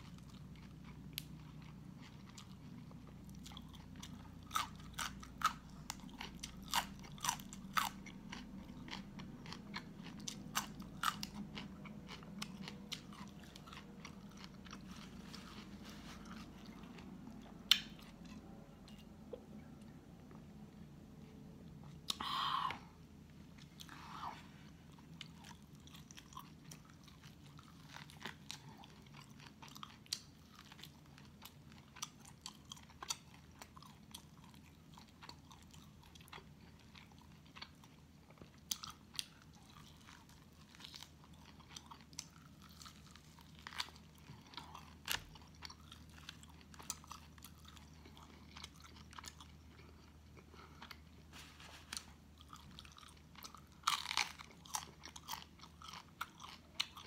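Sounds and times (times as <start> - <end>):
chewing and mouth clicks: 0.0 - 19.4, 24.9 - 57.0
faint low hum: 0.0 - 57.0.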